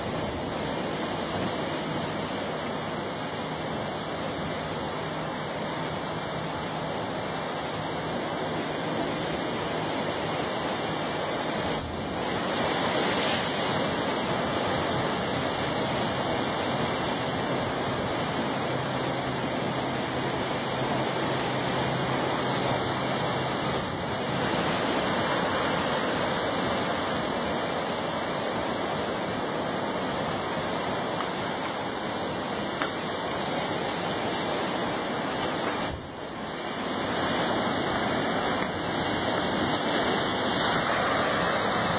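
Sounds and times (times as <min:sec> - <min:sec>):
ocean surf washing on shore: 0:00.0 - 0:41.9.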